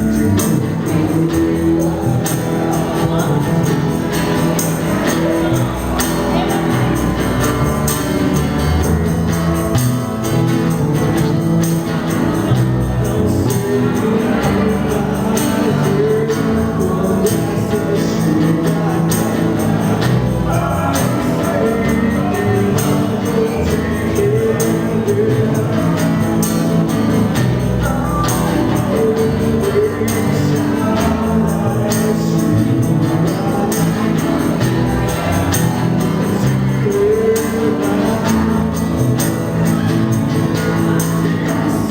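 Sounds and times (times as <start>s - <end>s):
person singing: 0.0s - 8.7s, 11.2s - 41.9s
cajon beat: 0.0s - 41.9s.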